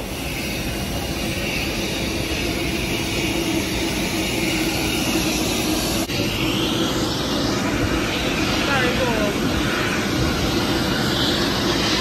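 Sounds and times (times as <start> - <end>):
jet aircraft roar: 0.0 - 12.0
low hum: 0.0 - 12.0.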